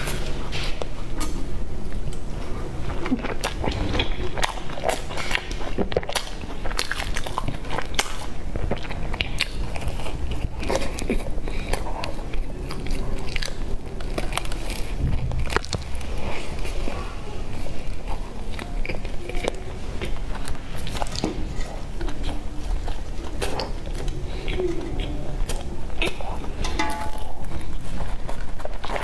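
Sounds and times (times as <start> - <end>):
chewing bread: 0.0 - 29.0
low steady hum: 0.0 - 29.0.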